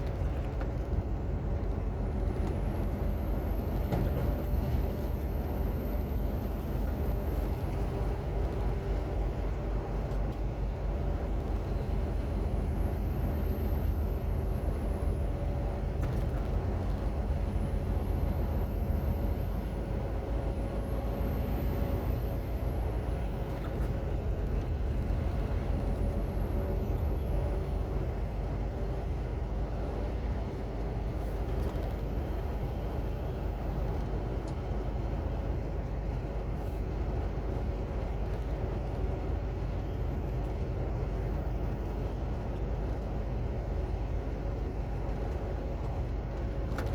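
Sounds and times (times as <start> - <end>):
diesel truck engine running: 0.0 - 46.9
road rumble: 0.0 - 46.9.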